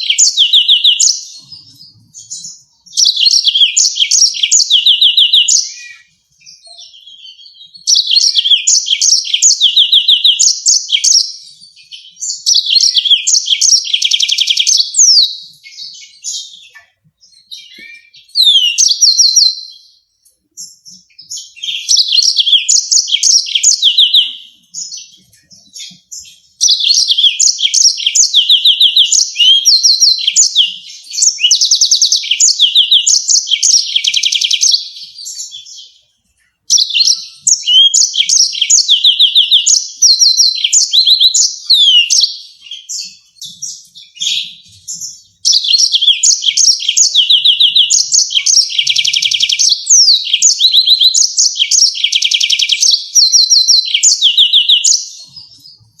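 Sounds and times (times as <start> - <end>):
canary singing rolling trills: 0.0 - 56.0.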